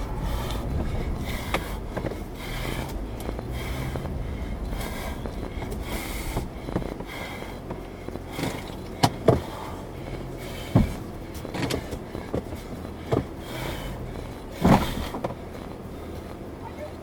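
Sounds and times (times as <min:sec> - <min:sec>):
sharp knocks and rattles: 0:00.0 - 0:16.5
engine and road rumble: 0:00.0 - 0:17.0.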